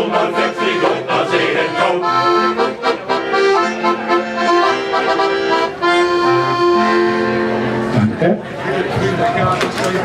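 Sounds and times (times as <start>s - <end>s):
accordion playing folk tune: 0.0s - 8.9s.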